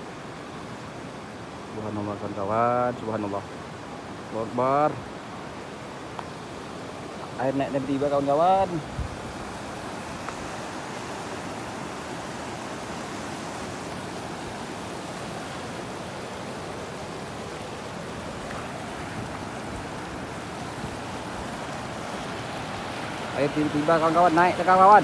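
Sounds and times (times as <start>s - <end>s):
turbulent water rushing: 0.0s - 25.0s.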